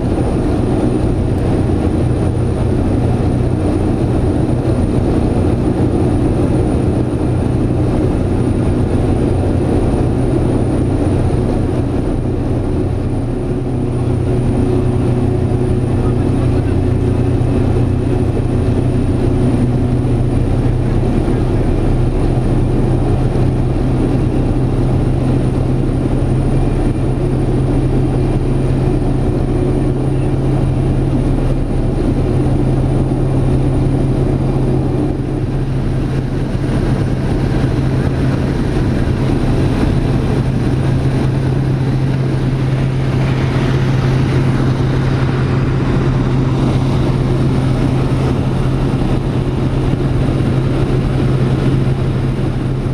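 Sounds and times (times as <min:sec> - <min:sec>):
turboprop engine droning in cockpit: 0:00.0 - 0:52.9.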